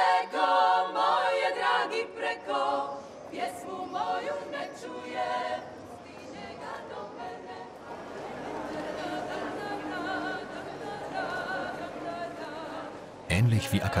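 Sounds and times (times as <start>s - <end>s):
women singing in harmony: 0.0s - 14.0s.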